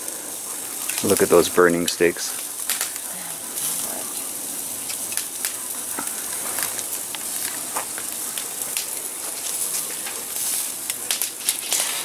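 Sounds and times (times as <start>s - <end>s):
fat crackling and popping: 0.0s - 12.0s
steaks sizzling on a grill: 0.0s - 12.0s.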